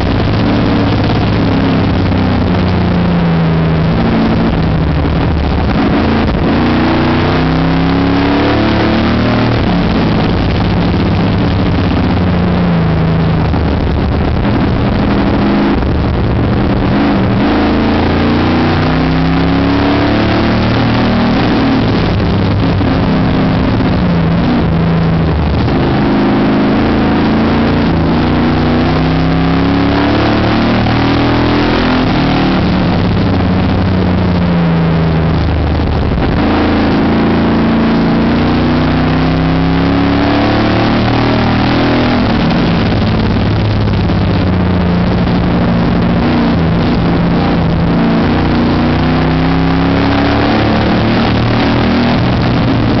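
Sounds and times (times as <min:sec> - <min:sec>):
race car engine accelerating: 0:00.0 - 0:53.0.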